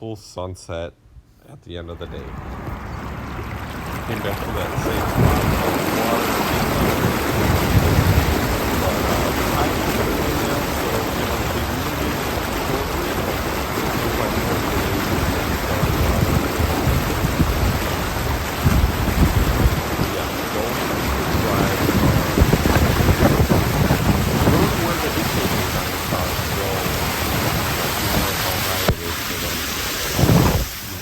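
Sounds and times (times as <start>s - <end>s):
wind buffeting microphone: 2.0s - 31.0s.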